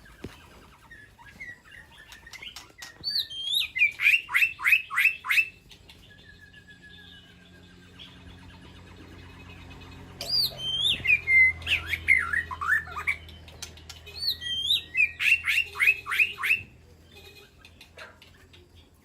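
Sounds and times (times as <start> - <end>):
bird singing whistled notes: 0.8 - 17.9.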